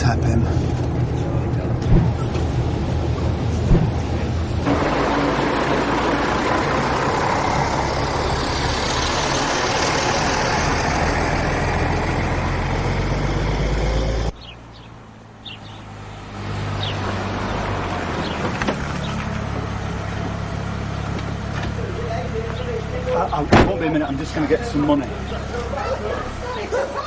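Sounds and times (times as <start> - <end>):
vehicle engine and road rumble: 0.0 - 27.0
vehicle engine running low: 0.0 - 27.0.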